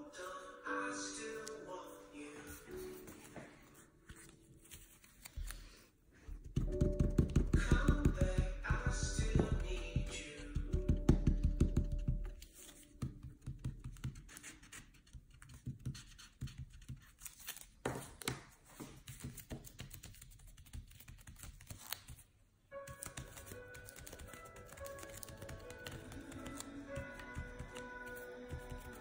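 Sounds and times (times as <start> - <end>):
soft music with held tones: 0.0 - 16.2, 20.0 - 29.0.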